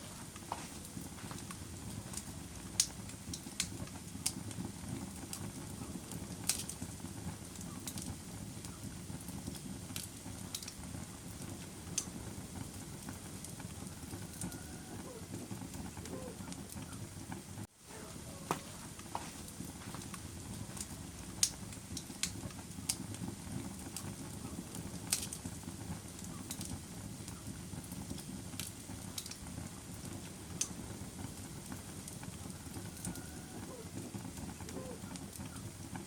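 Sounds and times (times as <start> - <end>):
fire crackles and pops: 0.0 - 36.0
wood fire burning: 0.0 - 36.0.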